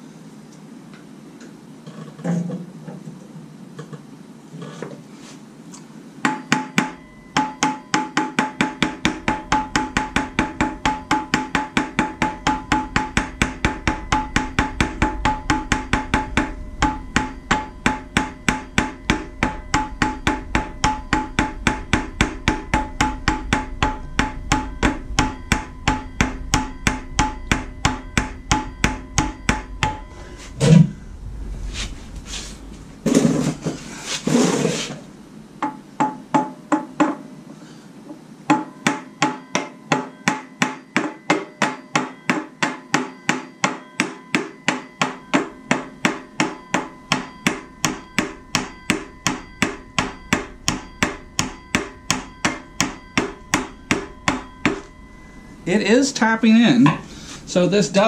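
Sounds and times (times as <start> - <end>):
sledgehammer striking metal: 6.2 - 37.2, 38.5 - 57.7.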